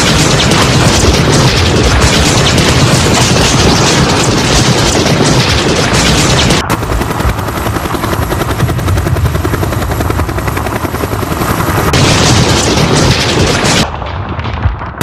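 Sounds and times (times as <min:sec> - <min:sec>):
loud din of battle: 0:00.0 - 0:10.5, 0:11.2 - 0:15.0
helicopter rotor beating: 0:00.0 - 0:13.8.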